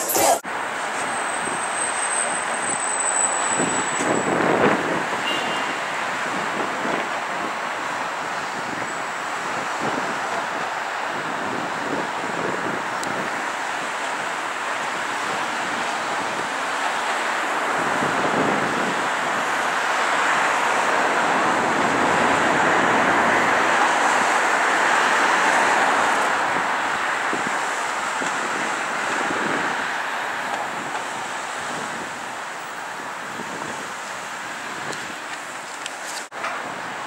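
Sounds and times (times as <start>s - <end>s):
city street traffic: 0.0s - 37.0s
wind: 0.0s - 37.0s.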